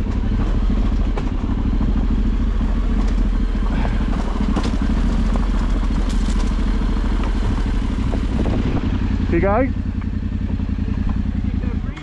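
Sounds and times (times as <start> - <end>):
off-road motorcycle engine: 0.0 - 12.0.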